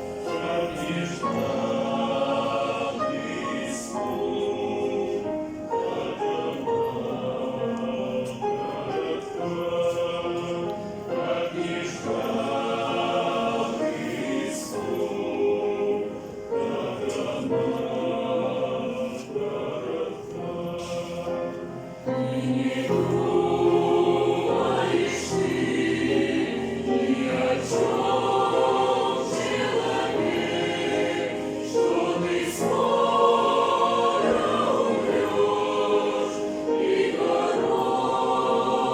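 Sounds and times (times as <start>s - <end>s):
choir singing: 0.0s - 38.9s.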